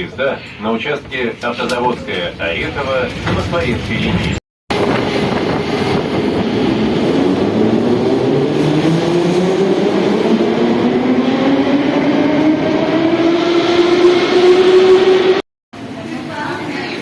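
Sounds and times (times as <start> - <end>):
train running noise: 1.4 - 17.0.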